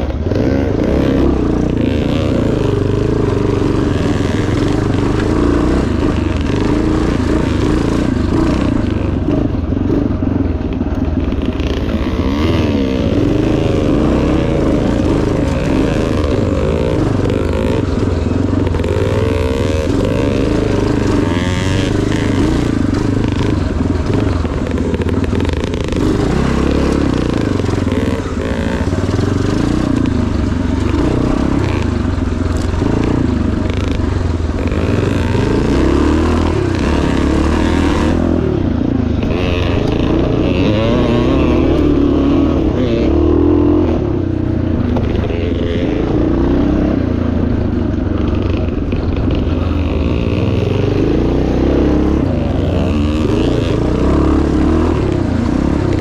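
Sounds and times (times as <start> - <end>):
motorcycle clatter: 0.0 - 56.0
motorcycle engine revving: 0.0 - 56.0.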